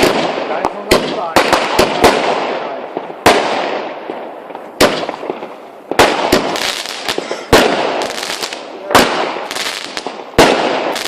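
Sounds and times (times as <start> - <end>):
fireworks bangs with rolling echo: 0.0 - 11.0
fireworks pops and crackles: 0.0 - 11.0.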